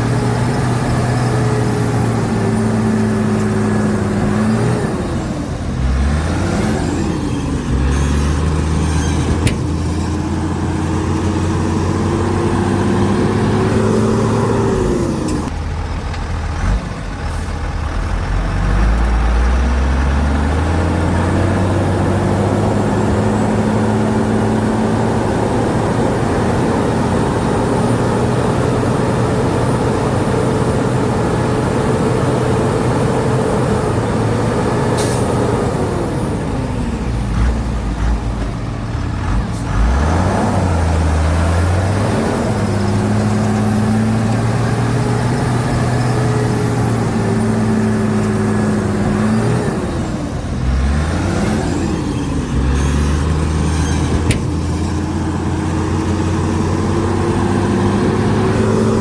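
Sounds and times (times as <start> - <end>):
diesel machinery engine: 0.0 - 59.0.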